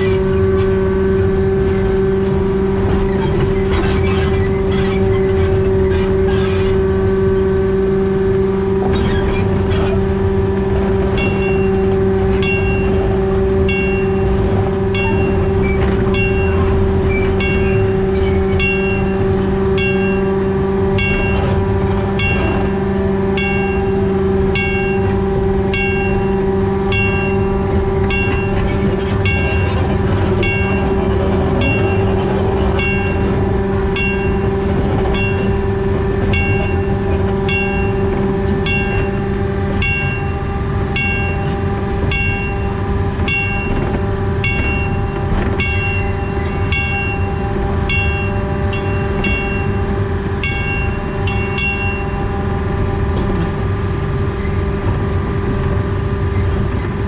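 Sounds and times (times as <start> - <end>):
diesel locomotive engine droning: 0.0 - 57.0.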